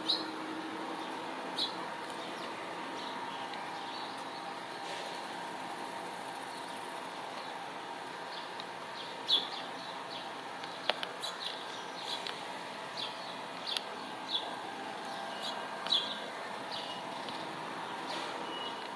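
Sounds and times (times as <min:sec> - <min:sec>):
steady background hum: 0:00.0 - 0:18.9.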